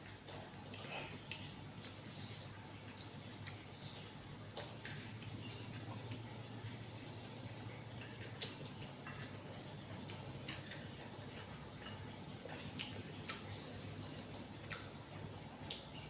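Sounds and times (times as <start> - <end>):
low steady hum: 0.0 - 16.0
wet chewing clicks and smacks: 0.1 - 6.8, 7.6 - 16.0.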